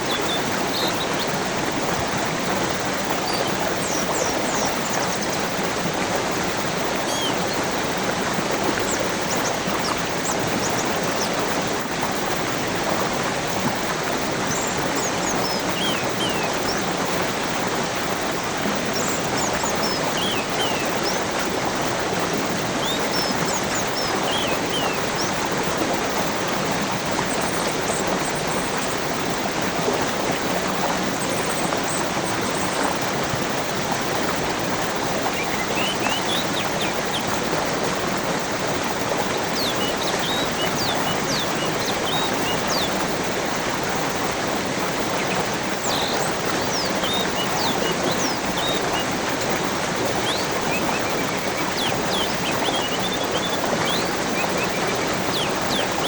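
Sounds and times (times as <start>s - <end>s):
flowing water rushing: 0.0s - 56.0s
small birds chirping: 0.0s - 56.0s.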